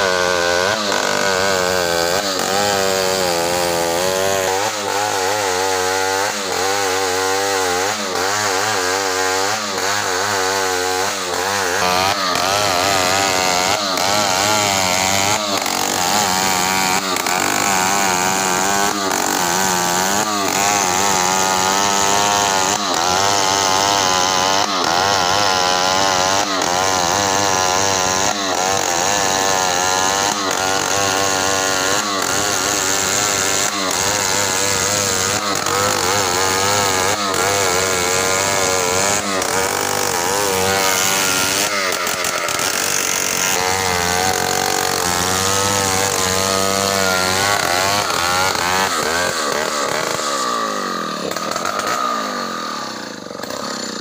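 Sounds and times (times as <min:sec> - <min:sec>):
chainsaw cutting through log: 0:00.0 - 0:54.0.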